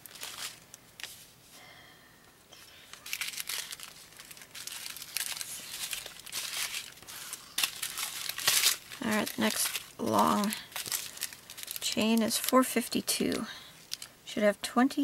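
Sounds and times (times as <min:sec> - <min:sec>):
plastic bags crinkling: 0:00.0 - 0:01.2, 0:02.6 - 0:14.2.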